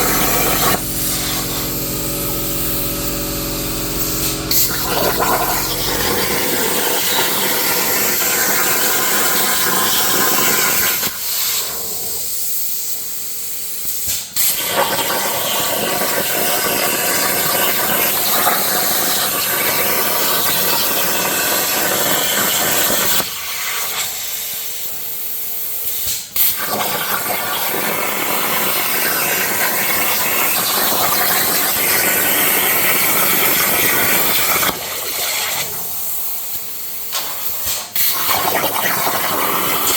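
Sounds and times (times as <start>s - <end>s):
plasma torch cutting steel: 0.0s - 39.9s.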